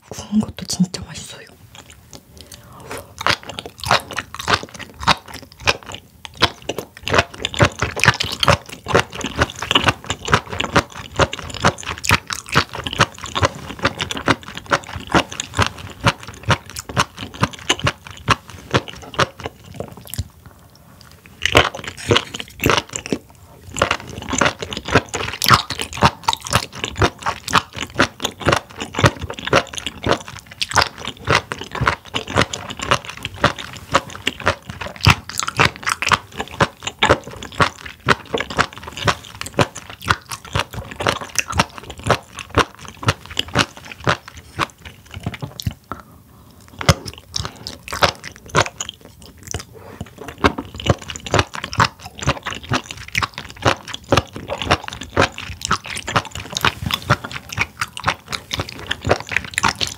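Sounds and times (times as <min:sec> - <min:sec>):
wet crunchy chewing: 0:01.6 - 0:59.9.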